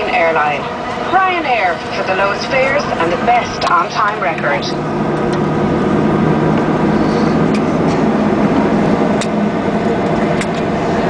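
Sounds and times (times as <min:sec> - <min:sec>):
airliner cabin hum and rumble: 0:00.0 - 0:11.0.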